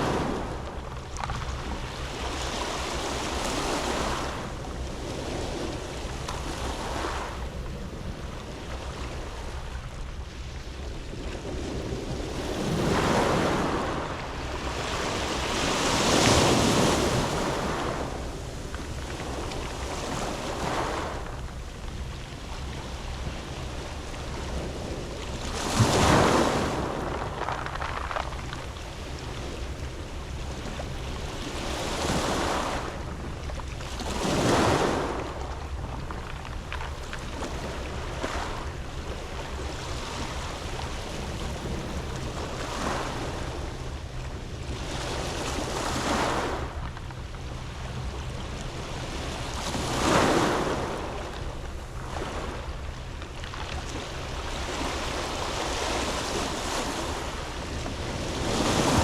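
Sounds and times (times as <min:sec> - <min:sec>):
waves breaking on pebble beach: 0:00.0 - 0:09.9, 0:11.1 - 0:59.0.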